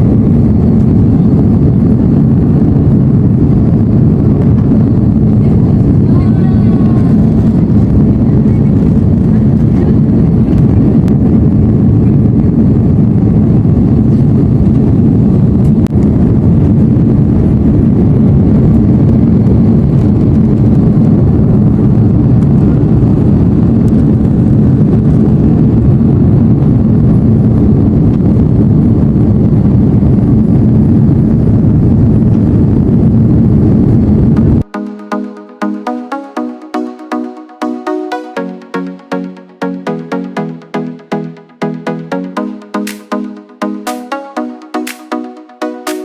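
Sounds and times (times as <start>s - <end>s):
airplane cabin drone: 0.0s - 46.0s.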